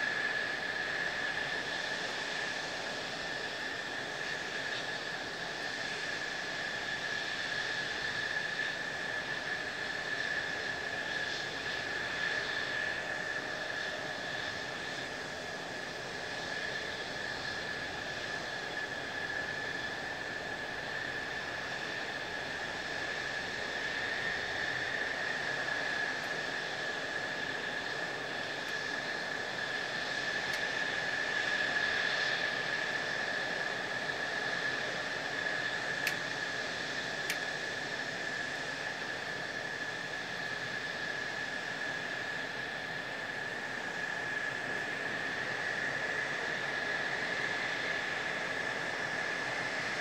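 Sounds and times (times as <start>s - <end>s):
jet engine high whine: 0.0s - 50.0s.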